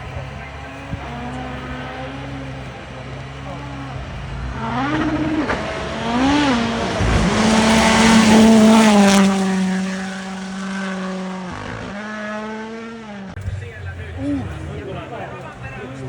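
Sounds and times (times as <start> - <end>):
rally car engine passing: 0.0 - 16.0.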